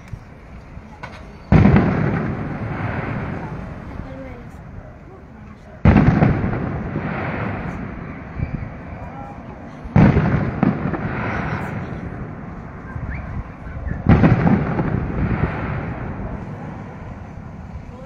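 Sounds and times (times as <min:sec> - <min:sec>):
fireworks pops and crackles: 0:00.0 - 0:17.7
distant firework booms: 0:01.0 - 0:17.8.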